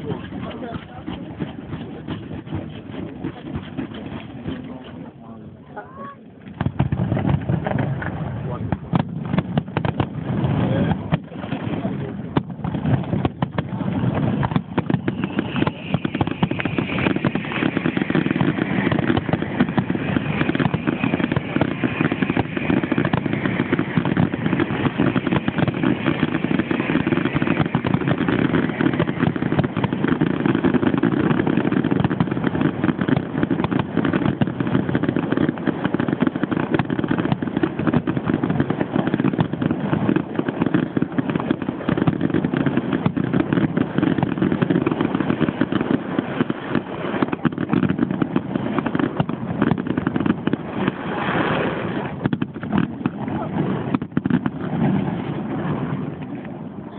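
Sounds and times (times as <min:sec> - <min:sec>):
fireworks bursts and crackling: 0:00.0 - 0:56.9.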